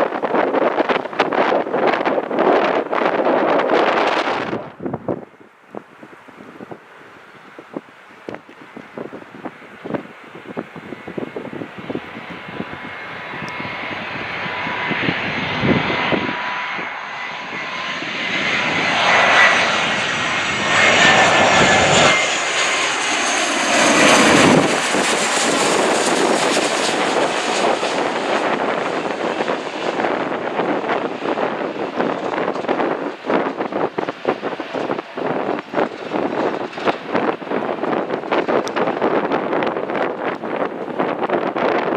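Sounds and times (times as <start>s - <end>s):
high whining fan tones: 0.0s - 41.9s
jet airliner engine roar: 0.0s - 41.9s
wind buffeting microphone: 0.0s - 41.9s.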